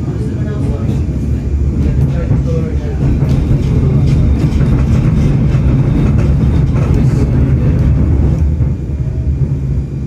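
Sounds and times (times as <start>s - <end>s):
tram running rumble: 0.0s - 10.0s.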